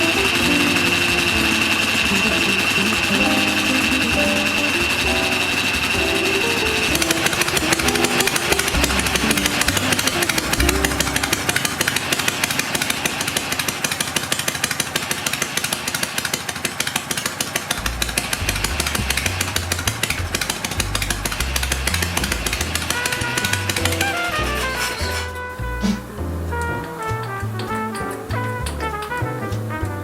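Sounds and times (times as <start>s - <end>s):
background music with bass: 0.0s - 12.0s, 17.8s - 30.0s
motorcycle engine running: 0.0s - 24.7s.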